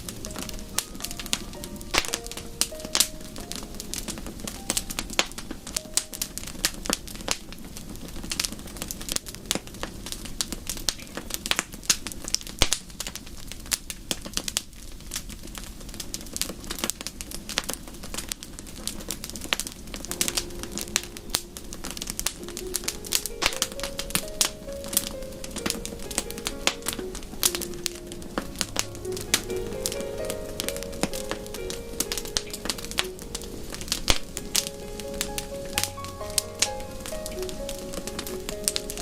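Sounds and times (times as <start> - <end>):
low rumble of burning: 0.0 - 39.0
wood fire crackling: 0.0 - 39.0.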